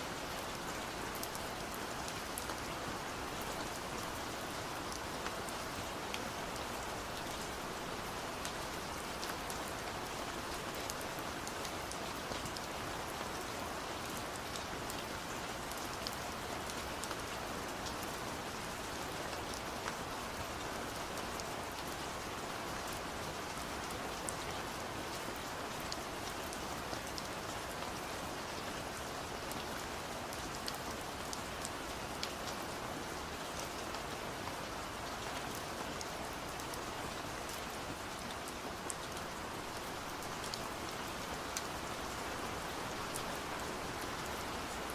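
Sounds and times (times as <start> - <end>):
steady rain hiss: 0.0 - 44.9
raindrops ticking on a surface: 0.2 - 44.9.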